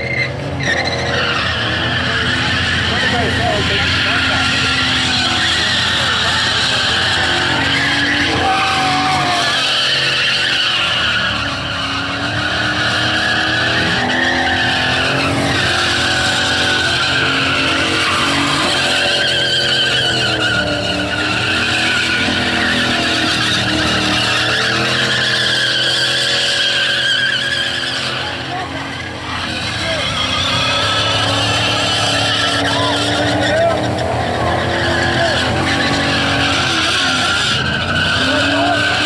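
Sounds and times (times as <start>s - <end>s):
car engine at high revs: 0.0s - 39.0s
tyres screeching: 0.0s - 39.0s.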